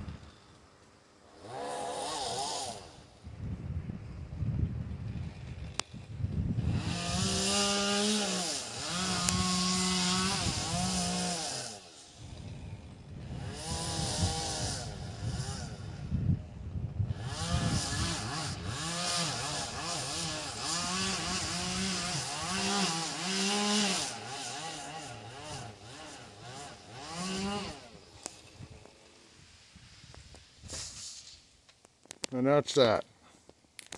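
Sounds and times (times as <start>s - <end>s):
chainsaw cutting wood: 0.1s - 3.2s, 5.1s - 16.2s, 17.0s - 31.4s.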